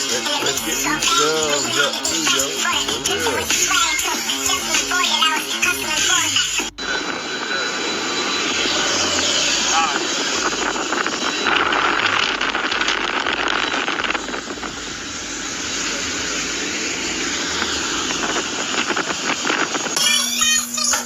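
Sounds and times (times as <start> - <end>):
jet engine hiss: 0.0 - 20.0.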